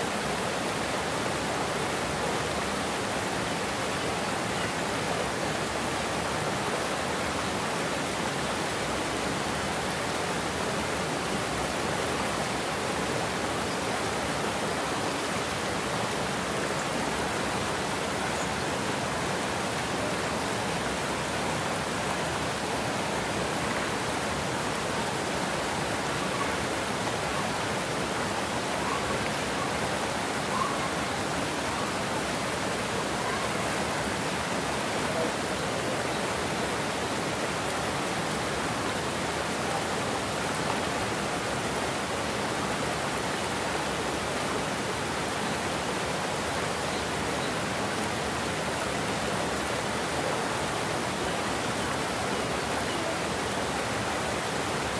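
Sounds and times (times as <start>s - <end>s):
water rushing over a spillway: 0.0s - 54.9s.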